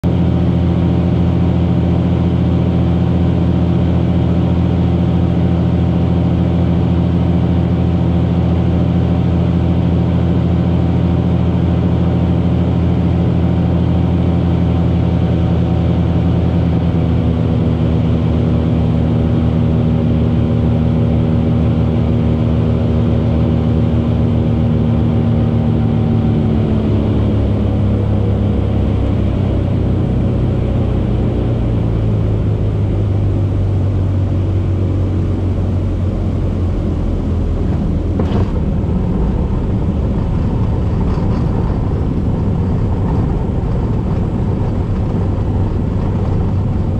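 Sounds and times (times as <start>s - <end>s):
twin propeller engines droning: 0.0s - 46.9s.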